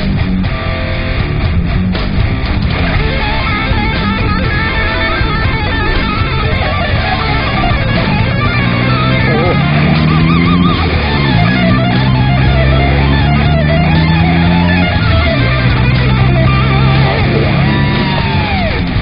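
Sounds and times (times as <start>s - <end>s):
distorted electric guitar rock music: 0.0s - 19.0s.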